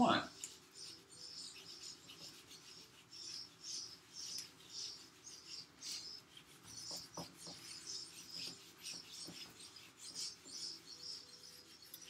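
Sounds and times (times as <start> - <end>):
eraser wiping whiteboard: 0.0 - 12.0.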